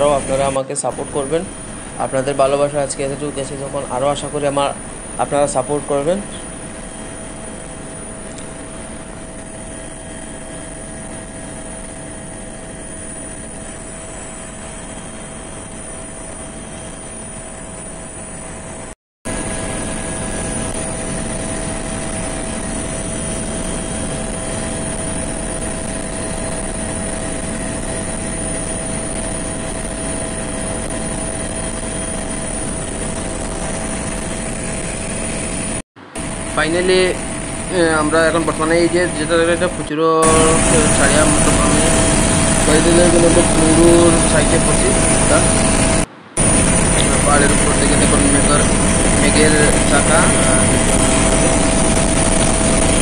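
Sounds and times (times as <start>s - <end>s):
helicopter engine and rotors droning: 0.0s - 53.0s
helicopter whine: 0.0s - 53.0s.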